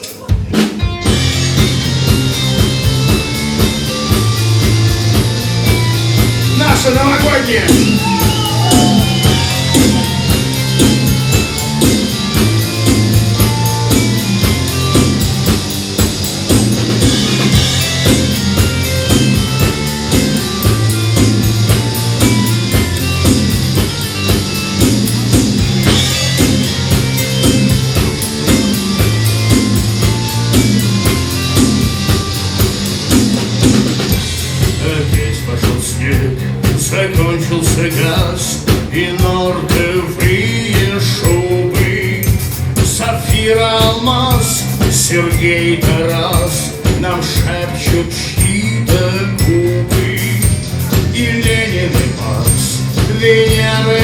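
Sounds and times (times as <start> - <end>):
bass guitar: 0.0 - 54.0
drum kit beat: 0.0 - 54.0
electric guitar: 0.0 - 54.0
high melodic notes: 1.0 - 54.0.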